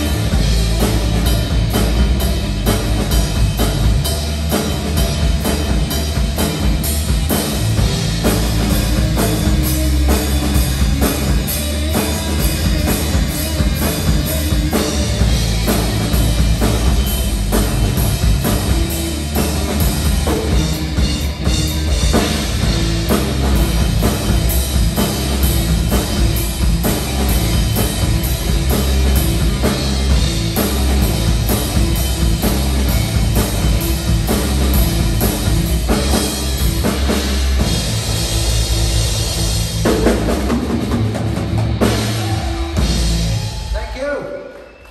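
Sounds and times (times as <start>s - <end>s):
steady drum beat: 0.0s - 44.3s
rock band playing: 0.0s - 44.9s.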